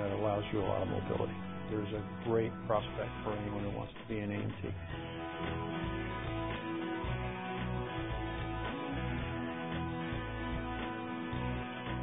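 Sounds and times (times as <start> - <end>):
guitar instrumental with steady beat: 0.0 - 12.0.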